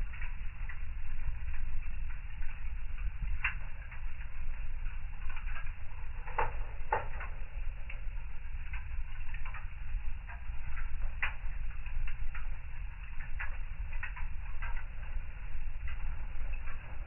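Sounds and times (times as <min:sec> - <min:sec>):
fire crackling with pops: 0:00.0 - 0:17.0
low rumble of flames: 0:00.0 - 0:17.0.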